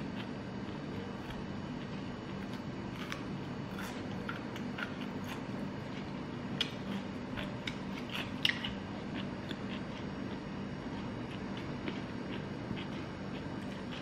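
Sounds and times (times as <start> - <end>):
chewing crunchy chili: 0.0 - 14.0
steady low hum: 0.0 - 14.0.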